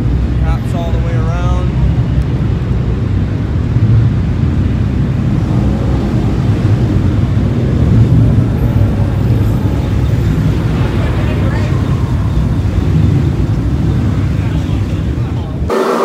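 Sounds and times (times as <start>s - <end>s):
car driving slowly: 0.0s - 15.7s.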